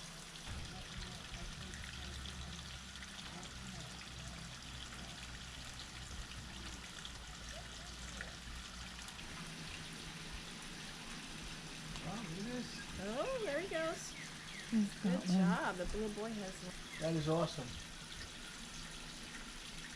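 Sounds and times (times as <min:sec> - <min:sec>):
running water: 0:00.0 - 0:19.9.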